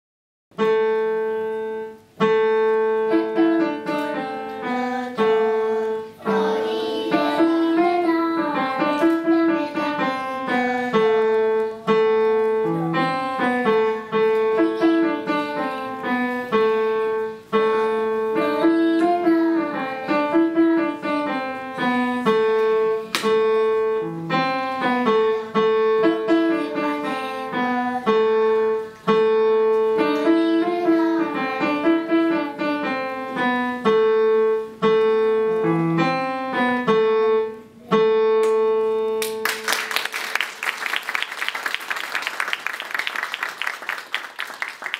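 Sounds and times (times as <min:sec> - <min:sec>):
digital piano melody: 0:00.5 - 0:39.7.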